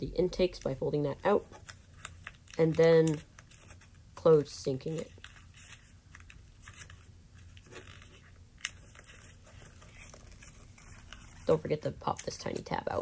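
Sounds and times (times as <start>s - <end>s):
paper rustling and crackling: 1.5s - 13.0s.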